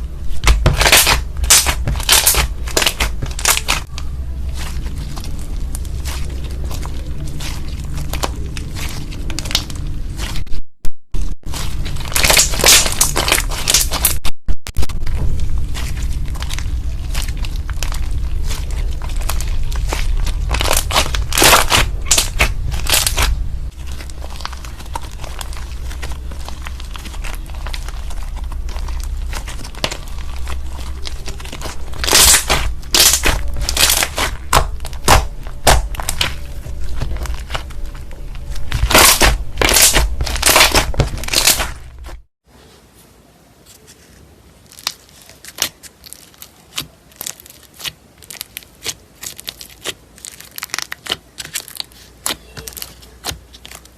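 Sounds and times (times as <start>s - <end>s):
slime crackling and popping: 0.2s - 10.4s, 11.4s - 42.3s, 44.6s - 53.9s.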